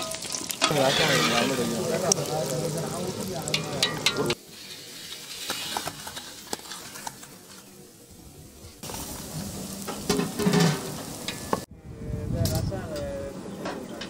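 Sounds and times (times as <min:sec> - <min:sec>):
hot oil sizzling and crackling: 0:00.0 - 0:11.7.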